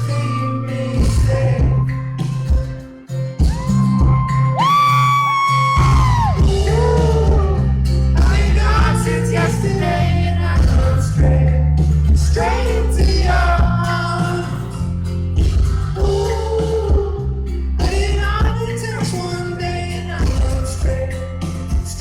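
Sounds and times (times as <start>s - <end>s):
lead vocals singing: 0.0s - 2.6s, 5.8s - 22.0s
live pop-rock band: 0.0s - 22.0s
steady bass line: 0.0s - 22.0s.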